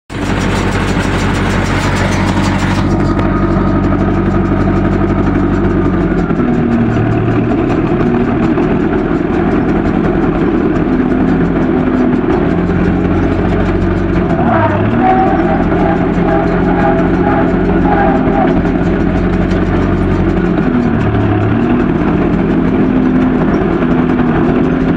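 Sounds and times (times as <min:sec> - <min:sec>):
tractor diesel engine running: 0:00.1 - 0:24.9.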